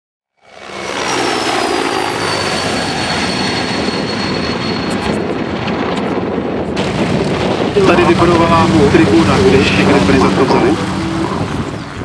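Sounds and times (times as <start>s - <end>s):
aircraft engine rushing: 0.3s - 12.0s.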